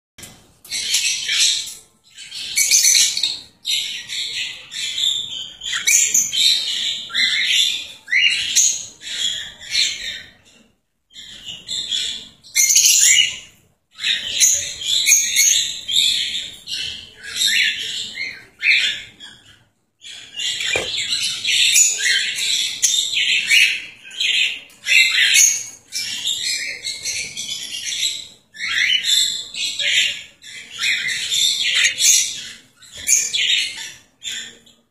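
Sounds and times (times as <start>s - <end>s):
cockatiels chirping: 0.2s - 34.9s.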